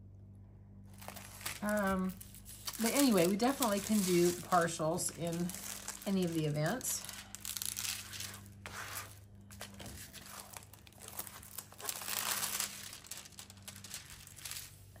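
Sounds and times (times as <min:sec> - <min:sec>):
plastic film crinkling: 0:00.9 - 0:15.0.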